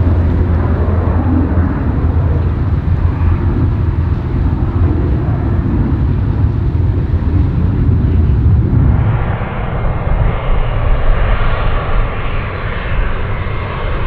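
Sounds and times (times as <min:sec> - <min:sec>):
jet airliner engine rumble: 0:00.0 - 0:14.0.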